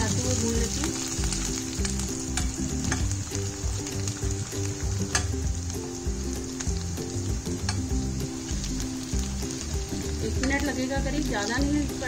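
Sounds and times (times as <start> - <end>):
ghee sizzling in a steel pan: 0.0 - 12.0.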